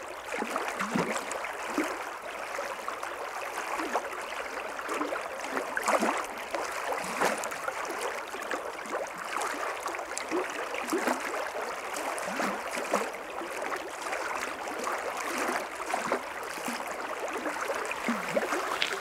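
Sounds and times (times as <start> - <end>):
stream gurgling: 0.0 - 19.0.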